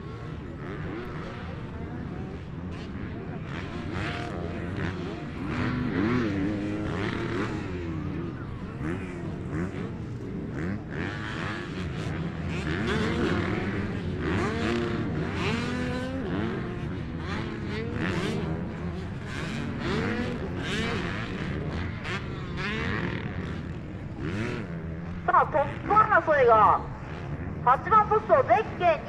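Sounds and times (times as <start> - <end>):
motocross bikes racing: 0.0 - 29.0.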